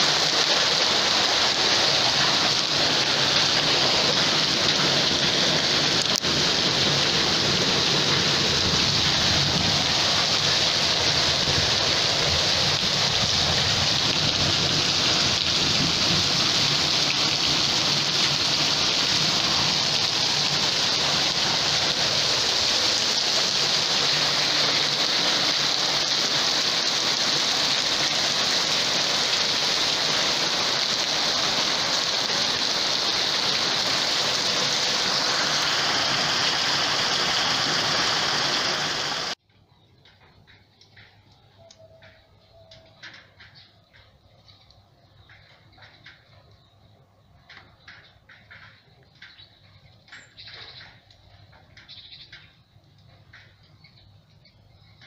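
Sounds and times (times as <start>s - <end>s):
heavy rain and hail: 0.0s - 39.4s, 47.4s - 54.0s.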